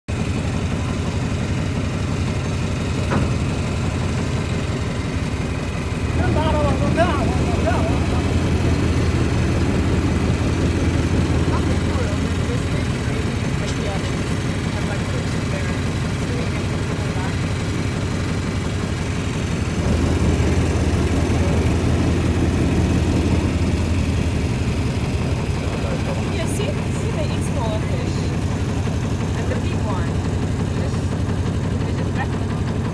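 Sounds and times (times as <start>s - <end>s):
boat engine running: 0.1s - 32.9s.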